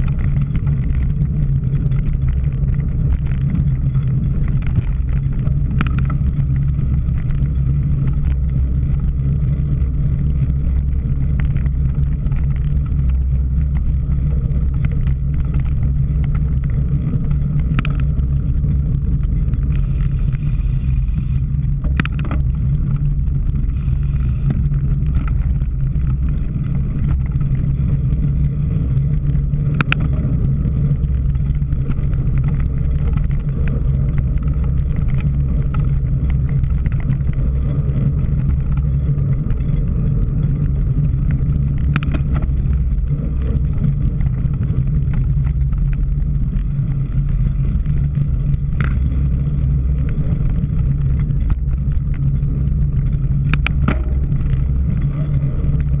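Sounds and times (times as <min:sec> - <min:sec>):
bike clicks and knocks: 0:00.0 - 0:56.0
wind buffeting microphone: 0:00.0 - 0:56.0.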